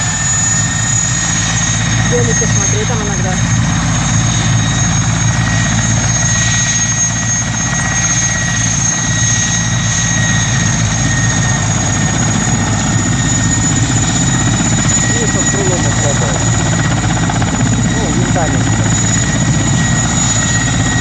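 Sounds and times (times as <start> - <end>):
helicopter rotor beat: 0.0 - 21.0
turbine engine whine: 0.0 - 21.0.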